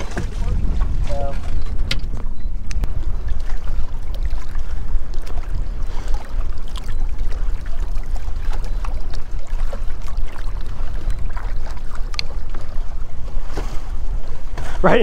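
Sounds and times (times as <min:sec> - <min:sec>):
water lapping against boat hull: 0:00.0 - 0:15.0
wind on microphone: 0:00.0 - 0:15.0.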